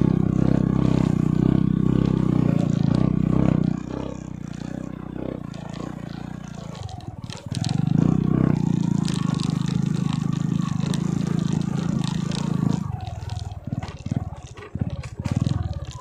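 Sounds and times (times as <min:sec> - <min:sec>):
small motorcycle engine running: 0:00.0 - 0:16.0.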